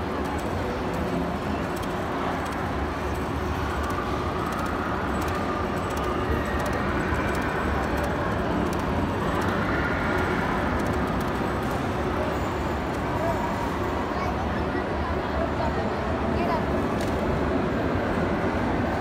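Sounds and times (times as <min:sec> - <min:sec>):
busy indoor arcade din: 0:00.0 - 0:19.0.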